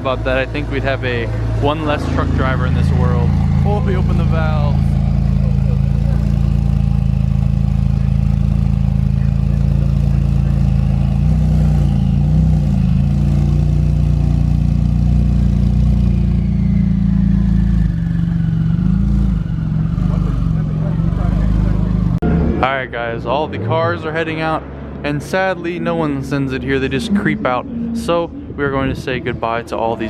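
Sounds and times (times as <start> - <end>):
car engine deep exhaust note: 0.0 - 30.0.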